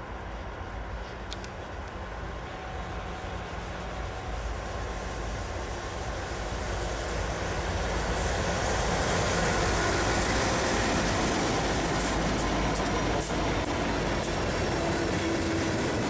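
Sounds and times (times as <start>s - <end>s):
diesel train engine rumble: 0.0s - 16.0s.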